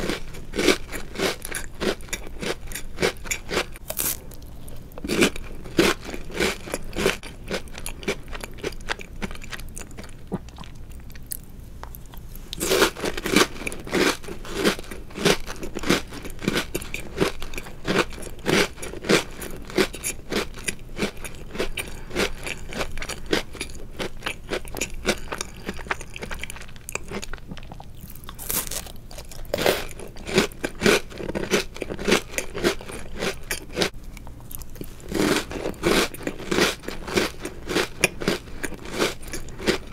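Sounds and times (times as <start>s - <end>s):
chewing and crunching cookies: 0.0s - 39.9s.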